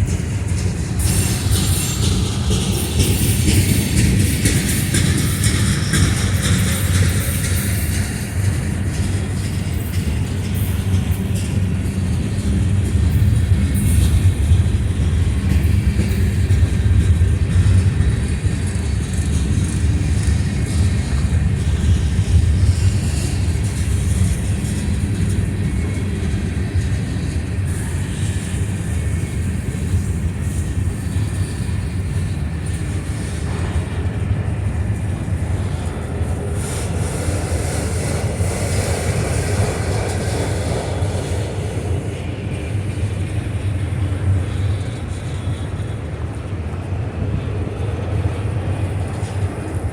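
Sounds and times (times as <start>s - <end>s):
train rumbling past: 0.0s - 49.9s.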